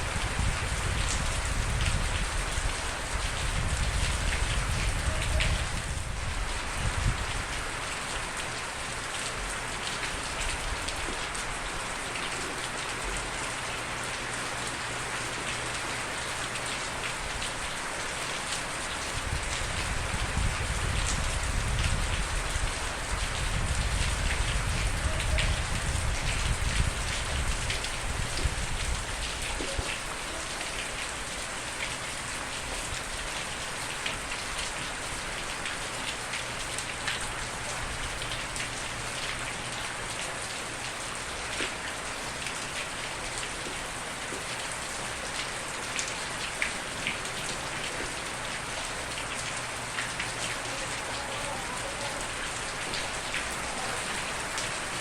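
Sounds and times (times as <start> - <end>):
close raindrops striking: 0.0 - 55.0
steady rain falling: 0.0 - 55.0.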